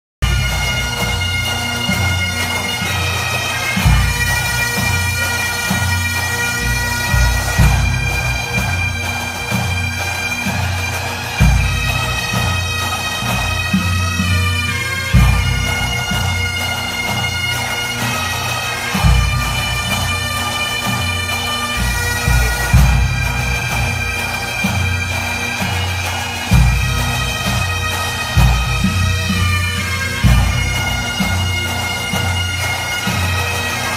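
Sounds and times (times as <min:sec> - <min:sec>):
bagpipes playing slow tune: 0:00.2 - 0:33.9.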